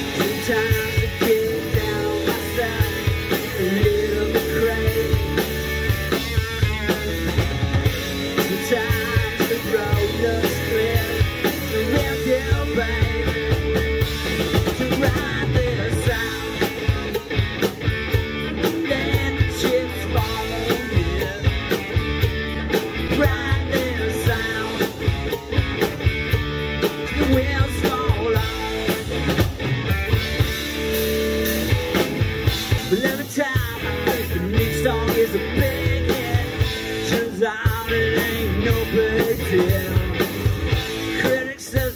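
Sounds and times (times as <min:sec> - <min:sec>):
bass guitar: 0:00.0 - 0:41.9
electric guitar: 0:00.0 - 0:41.9.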